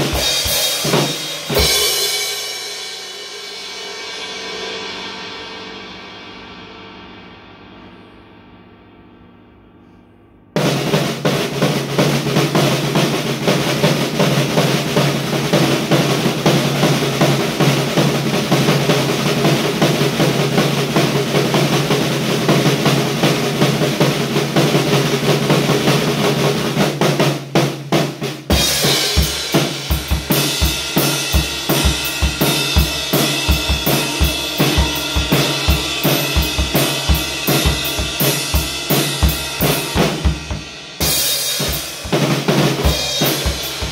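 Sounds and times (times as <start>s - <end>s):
drum kit steady beat: 0.0s - 4.8s, 10.6s - 43.9s
drum and cymbal roll: 0.0s - 9.4s, 10.6s - 43.9s.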